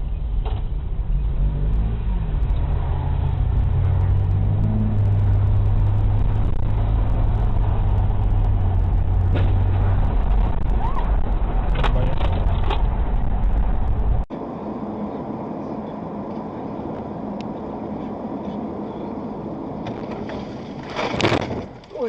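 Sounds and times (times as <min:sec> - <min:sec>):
road and engine rumble: 0:00.0 - 0:22.0
traffic noise: 0:00.0 - 0:22.0.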